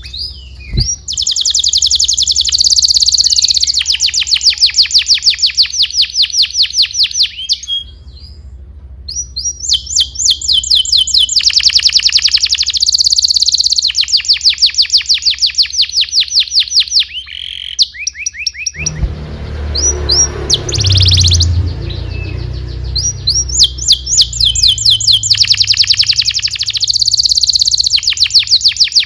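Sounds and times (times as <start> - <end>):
canary singing trills: 0.0 - 8.4, 9.1 - 29.0.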